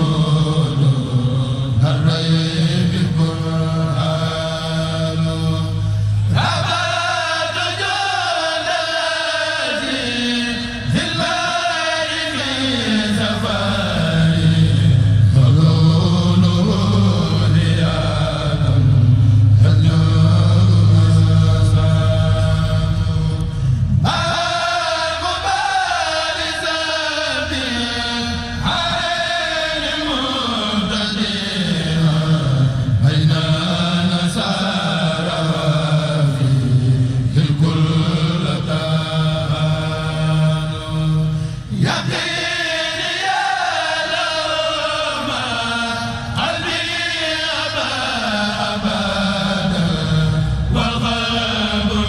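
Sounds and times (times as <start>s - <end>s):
men chanting in unison: 0.0s - 52.0s.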